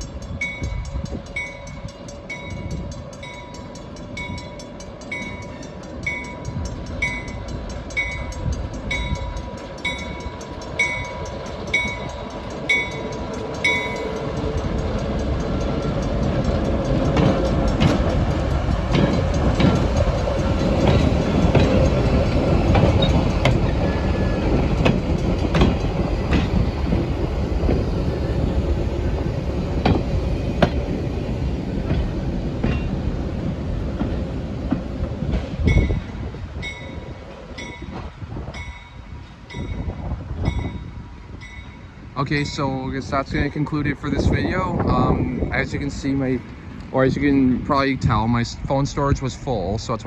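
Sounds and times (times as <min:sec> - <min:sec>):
train rumbling past: 0:00.0 - 0:50.0
train wheels clicking on rail joints: 0:00.0 - 0:50.0.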